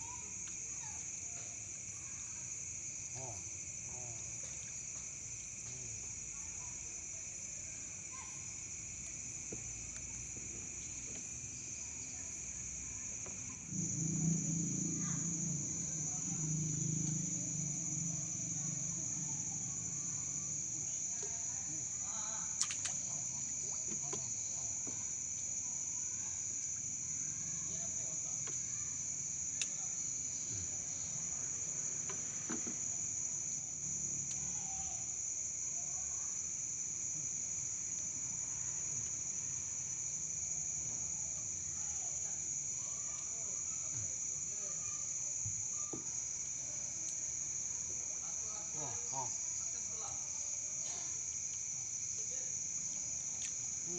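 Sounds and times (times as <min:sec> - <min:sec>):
night insects chirring: 0:00.0 - 0:53.9.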